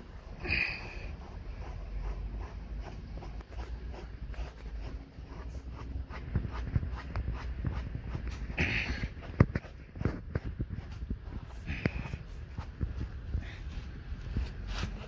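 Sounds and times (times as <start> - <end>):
scuffing and rubbing: 1.1 - 15.0.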